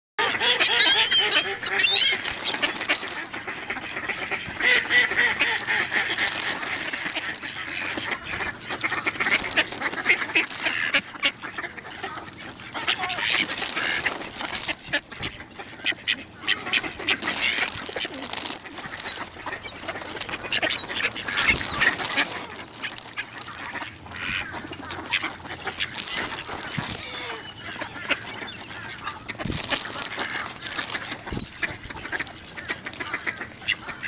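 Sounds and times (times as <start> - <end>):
ducks quacking: 0.2 - 34.0.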